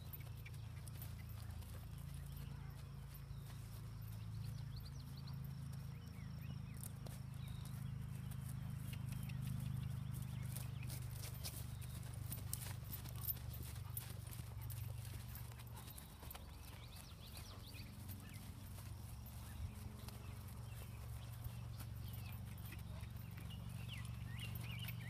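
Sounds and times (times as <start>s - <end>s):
horse hoofbeats on grass: 0.0s - 25.0s.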